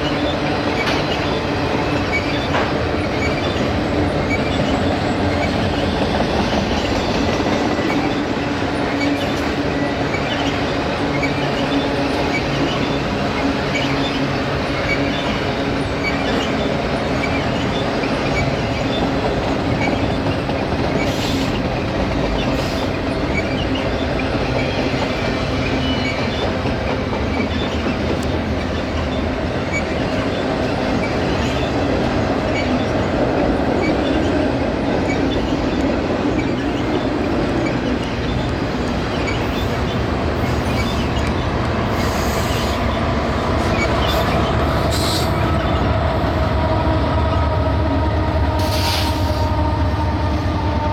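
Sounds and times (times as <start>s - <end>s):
freight train rolling on rails: 0.0s - 50.9s.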